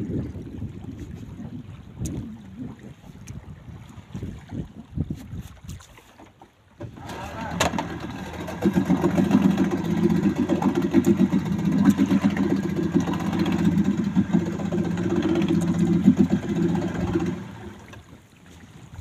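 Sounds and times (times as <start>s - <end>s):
outboard motor puttering: 0.0s - 19.0s.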